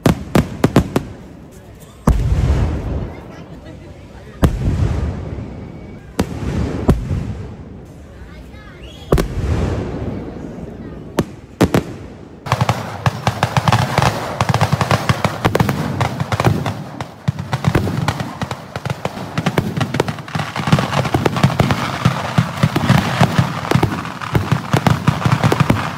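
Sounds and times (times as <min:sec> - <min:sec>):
fireworks bangs and crackle: 0:00.0 - 0:25.9.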